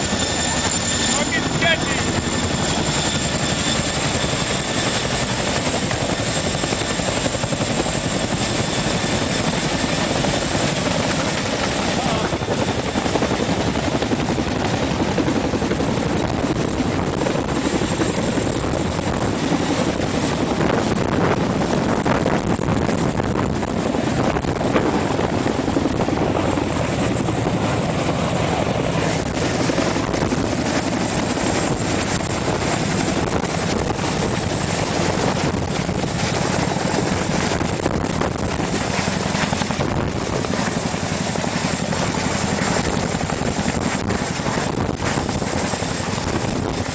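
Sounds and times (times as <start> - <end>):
helicopter rotor chop: 0.0 - 46.9
high turbine whine: 0.0 - 46.9.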